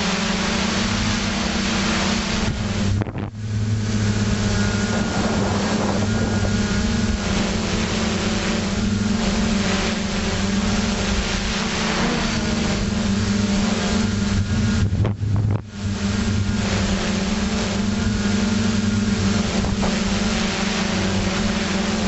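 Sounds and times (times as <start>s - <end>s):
drone motors humming: 0.0s - 22.0s
wind on microphone: 0.0s - 22.0s.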